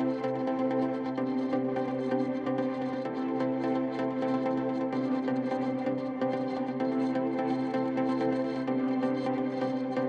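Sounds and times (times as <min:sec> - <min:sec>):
calm ambient music: 0:00.0 - 0:10.0.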